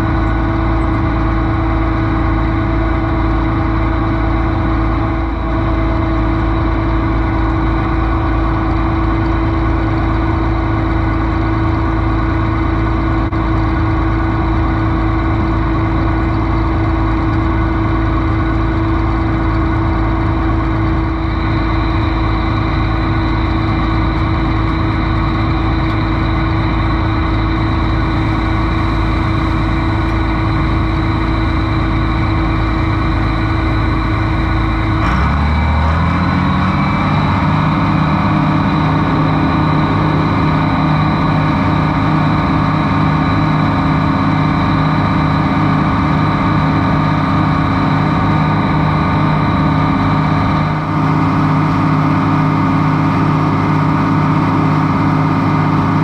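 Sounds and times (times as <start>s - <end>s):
engine running steadily: 0.0s - 56.0s
high steady whine: 0.0s - 56.0s.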